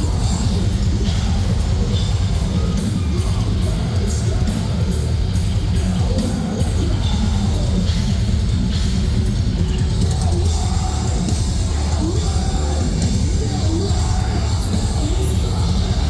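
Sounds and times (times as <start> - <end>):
metal band playing: 0.0 - 16.0.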